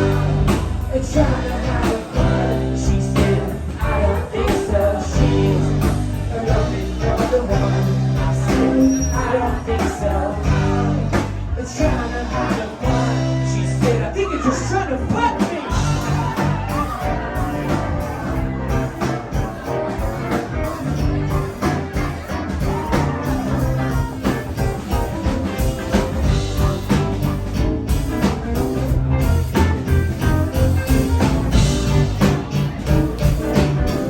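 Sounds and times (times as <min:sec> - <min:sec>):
drum kit beat: 0:00.0 - 0:14.2, 0:15.2 - 0:34.0
bass guitar: 0:00.0 - 0:34.0
electric guitars: 0:00.0 - 0:34.0.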